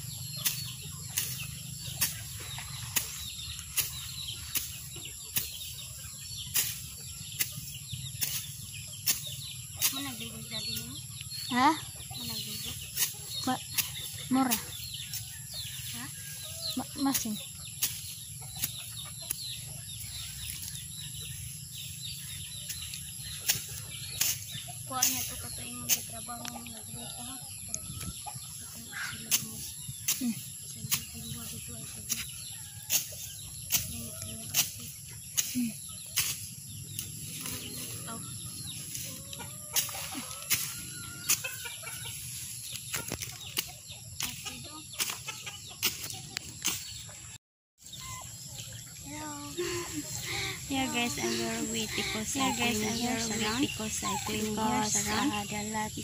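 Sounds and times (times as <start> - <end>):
chicks peeping: 0.1 - 56.0.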